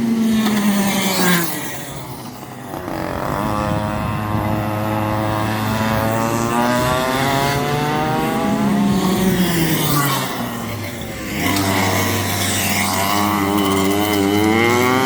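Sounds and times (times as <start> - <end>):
go-kart engine accelerating: 0.0 - 15.0.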